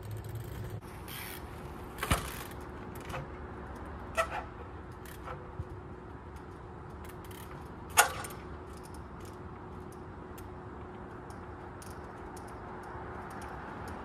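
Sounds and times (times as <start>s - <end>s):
bike clicks and rattles: 0.0s - 14.0s
traffic noise: 0.0s - 14.0s.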